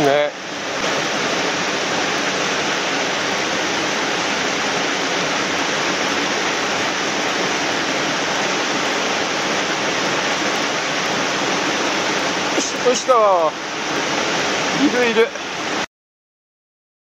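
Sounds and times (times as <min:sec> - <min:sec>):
waterfall pouring into pool: 0:00.0 - 0:15.9.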